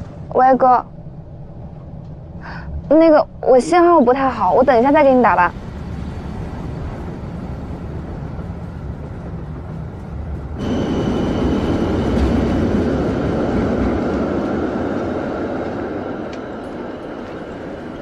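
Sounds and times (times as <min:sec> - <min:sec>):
rumble inside electric tram: 0:00.0 - 0:18.0
tram passing with wheel noise: 0:00.0 - 0:18.0.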